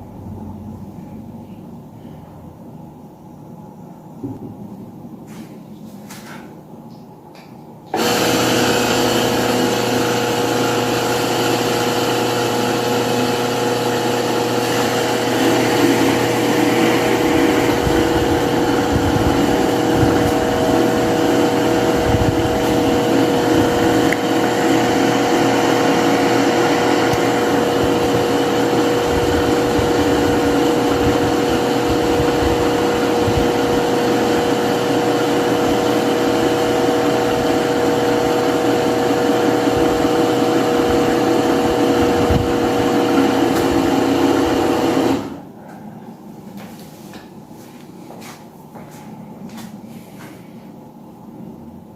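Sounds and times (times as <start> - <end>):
electric fan running: 0.0 - 51.9.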